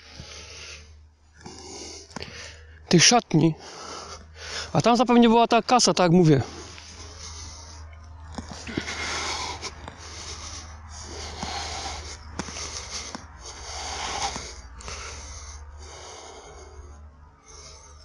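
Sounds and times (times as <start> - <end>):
person breathing heavily: 0.0 - 2.9, 3.5 - 4.9, 5.6 - 18.0
steady low hum: 0.0 - 18.0.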